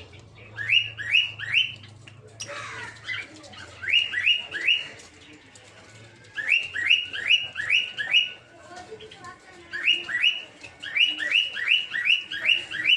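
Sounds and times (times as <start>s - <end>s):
birds chirping sharply: 0.0s - 12.9s.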